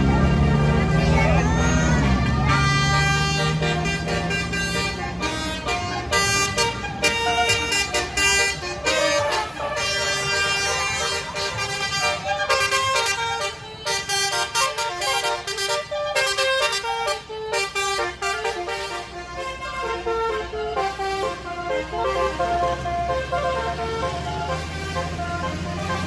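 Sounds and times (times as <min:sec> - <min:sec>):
traffic rumble: 0:00.0 - 0:26.0
musical air horn melody: 0:02.3 - 0:26.0.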